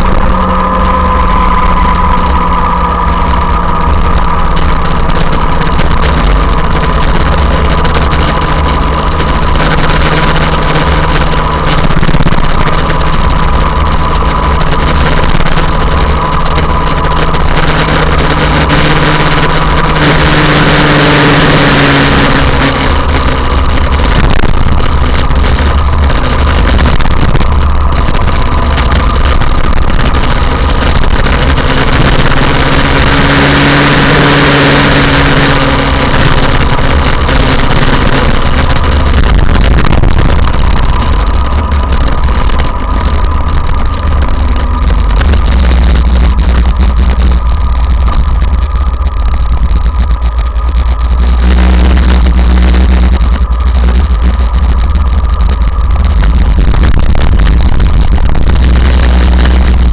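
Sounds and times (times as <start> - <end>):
motorcycle engine: 0.0 - 59.9
wind and road noise: 0.0 - 59.9.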